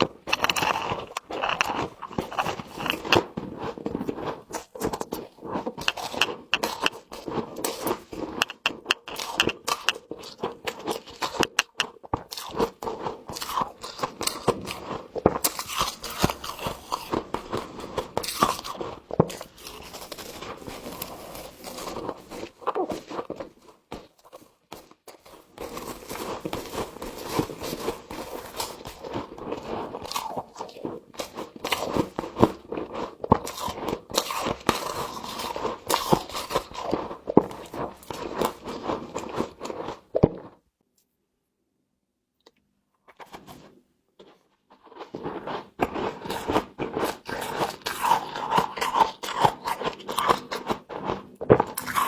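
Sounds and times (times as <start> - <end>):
crunching and chewing frost: 0.0 - 40.6, 43.1 - 52.0.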